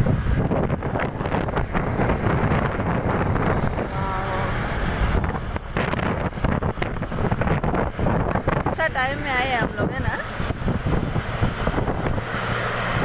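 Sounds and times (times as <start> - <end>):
vehicle road noise: 0.0 - 13.0
wind buffeting microphone: 0.0 - 13.0.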